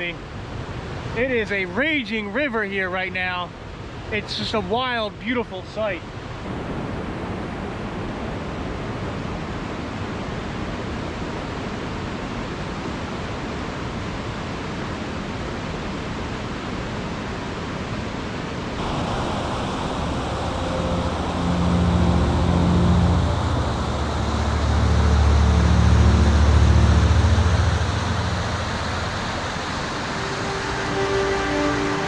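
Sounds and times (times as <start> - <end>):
rushing creek at waterfall: 3.2 - 32.0.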